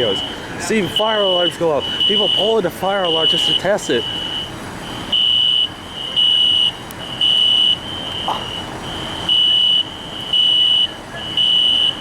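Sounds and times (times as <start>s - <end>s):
fire alarm horn pulsing: 0.0s - 12.0s.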